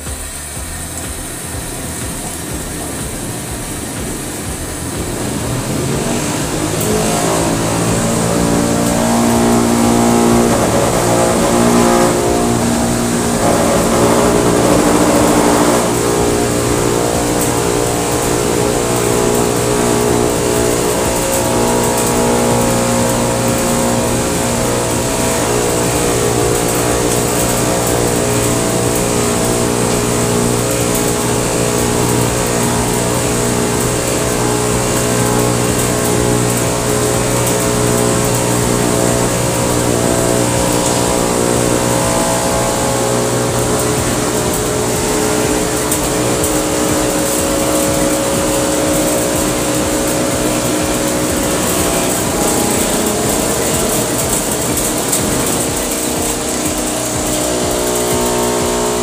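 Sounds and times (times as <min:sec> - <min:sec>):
gas burner hissing: 0:00.0 - 0:59.0
motor hum and whine: 0:00.0 - 0:59.0.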